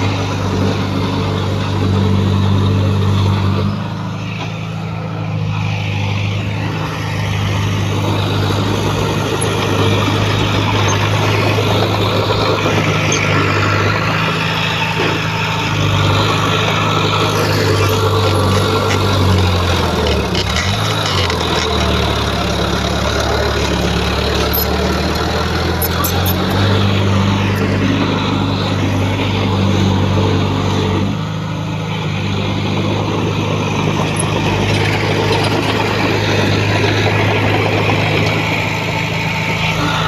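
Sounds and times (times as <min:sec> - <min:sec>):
diesel engine of earthmoving equipment: 0:00.0 - 0:40.0.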